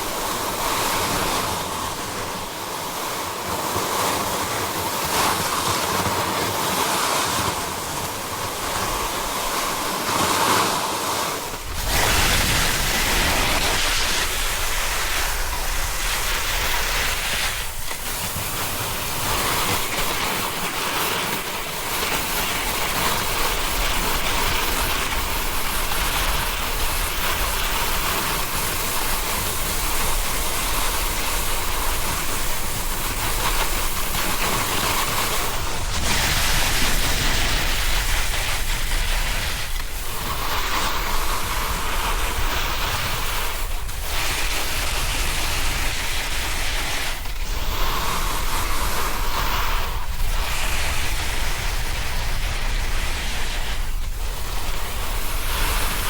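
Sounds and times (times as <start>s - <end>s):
snowboard scraping over snow: 0.0s - 56.0s
wind rushing over microphone: 0.0s - 56.0s.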